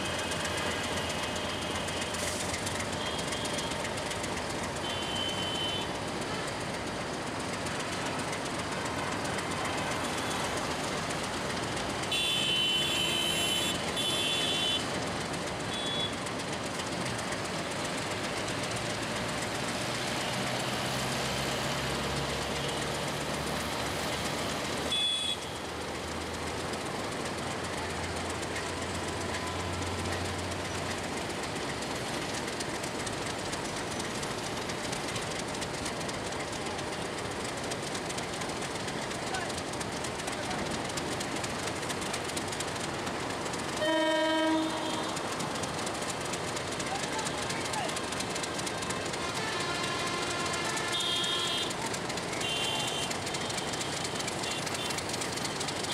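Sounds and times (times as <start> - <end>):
diesel locomotive rumbling: 0.0 - 55.9
low engine hum: 0.0 - 55.9.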